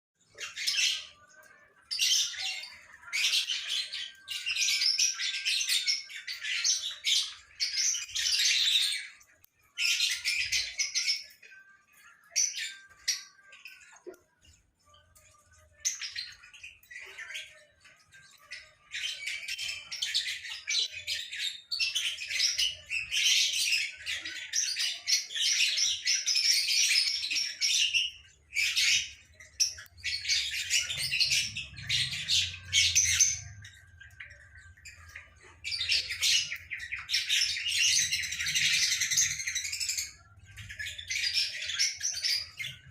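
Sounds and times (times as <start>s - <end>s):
lovebirds chattering: 0.3s - 42.9s.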